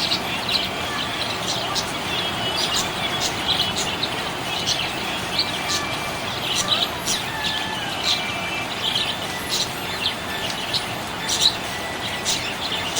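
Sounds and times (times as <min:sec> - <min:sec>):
parrots chirping: 0:00.0 - 0:12.9.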